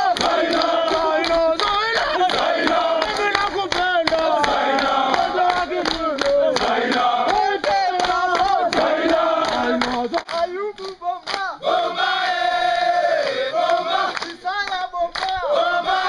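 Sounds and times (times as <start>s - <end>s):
sharp hand claps: 0.0s - 11.6s, 13.2s - 15.5s
group singing and chanting: 0.0s - 16.0s.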